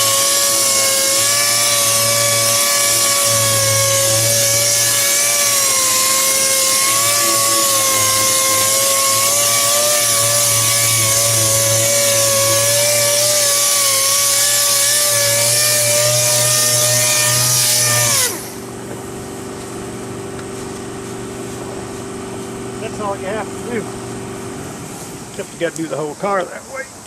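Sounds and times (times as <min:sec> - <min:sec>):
sander whining: 0:00.0 - 0:24.6.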